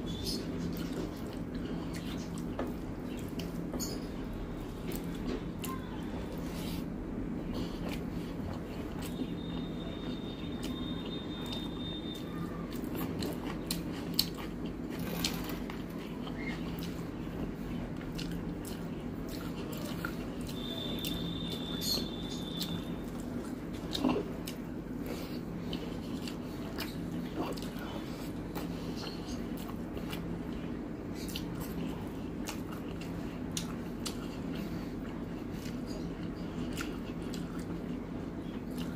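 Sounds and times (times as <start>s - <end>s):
steady low hum: 0.0s - 38.9s
close-up chewing: 0.1s - 38.9s.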